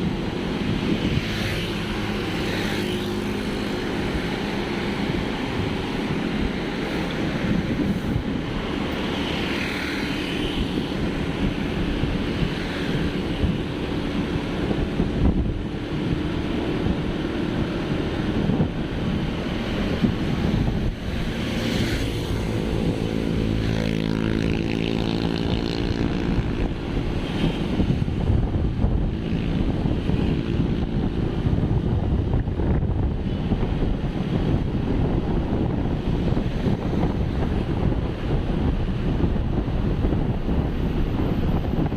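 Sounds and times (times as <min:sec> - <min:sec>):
passing engine: 0:00.0 - 0:41.9
vehicle road noise: 0:00.0 - 0:41.9
wind buffeting microphone: 0:00.0 - 0:41.9.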